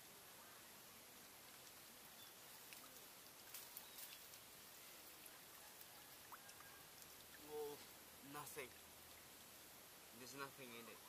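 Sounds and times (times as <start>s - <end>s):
water drips and splashes: 1.0s - 10.2s.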